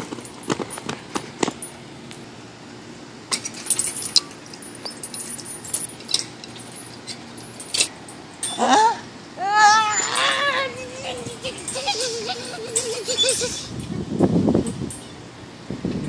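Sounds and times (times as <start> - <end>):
metal swing chains rattling: 0.0 - 2.6, 3.3 - 15.3.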